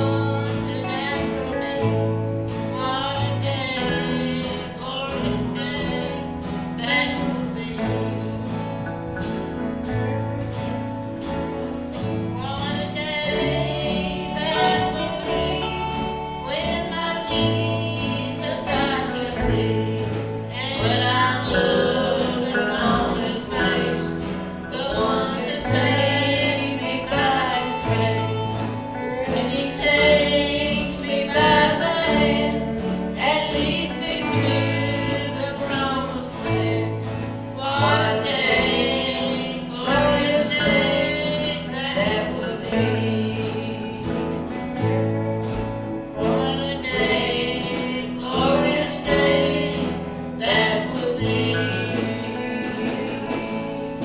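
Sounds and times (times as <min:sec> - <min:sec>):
gospel song with band: 0:00.0 - 0:54.0.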